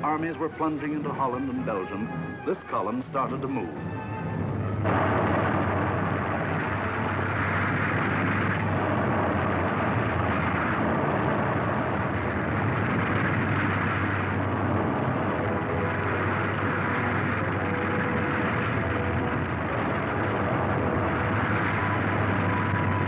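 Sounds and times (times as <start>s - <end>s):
constant low hum: 0.0s - 23.0s
tank engines and tracks rolling: 0.0s - 23.0s.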